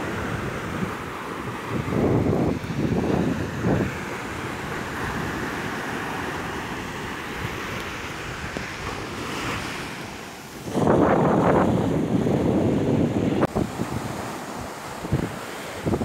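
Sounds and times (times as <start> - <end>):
waves breaking on beach: 0.0 - 16.0
wind blowing: 0.0 - 16.0.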